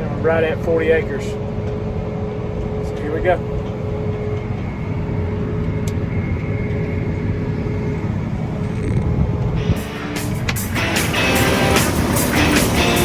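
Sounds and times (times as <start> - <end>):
diesel harvest machinery rumble: 0.0 - 13.0.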